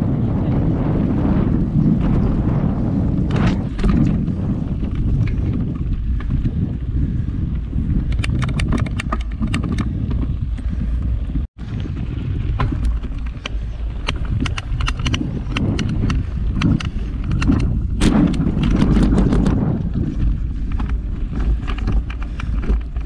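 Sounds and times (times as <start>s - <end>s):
bike rattles and clicks: 0.0s - 23.0s
low rumble of wind and tyres: 0.0s - 23.0s.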